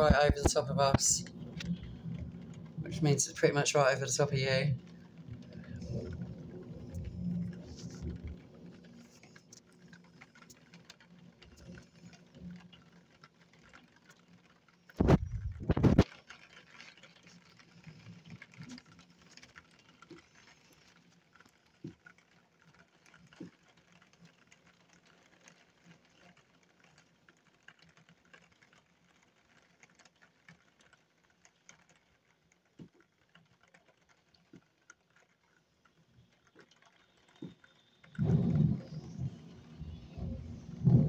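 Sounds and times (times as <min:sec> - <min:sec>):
faint rain patter: 0:00.0 - 0:41.0.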